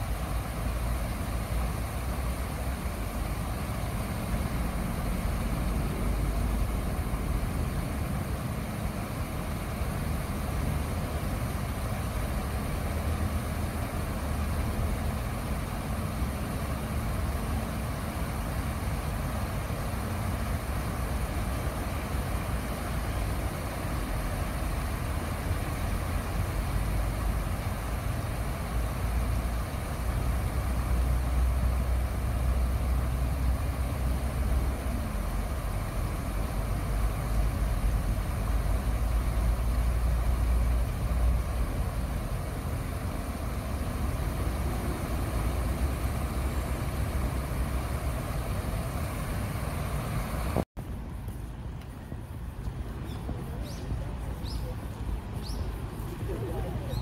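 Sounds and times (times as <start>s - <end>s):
stream water splashing over stones: 0.0s - 50.6s.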